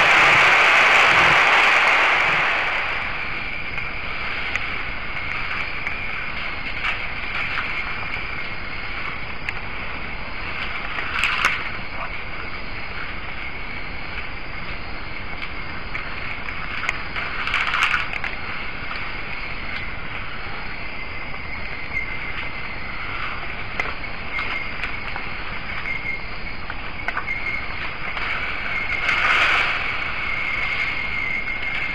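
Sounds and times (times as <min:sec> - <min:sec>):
insects with high-pitched whine: 0:00.0 - 0:31.9.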